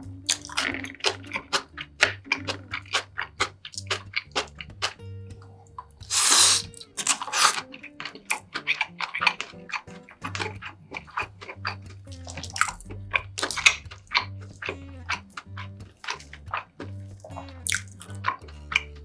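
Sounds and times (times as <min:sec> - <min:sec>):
loud slurp: 0:00.0 - 0:05.0, 0:05.6 - 0:19.0
chewing clicks and smacks: 0:00.0 - 0:19.0.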